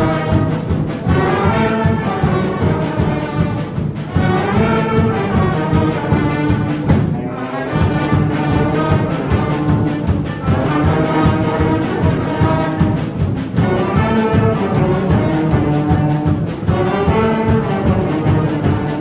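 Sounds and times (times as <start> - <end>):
military wind band playing: 0.0 - 19.0.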